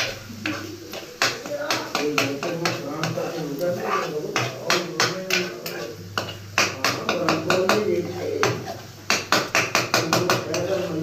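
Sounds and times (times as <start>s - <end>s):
metal spoon scraping frying pan: 0.0s - 11.0s.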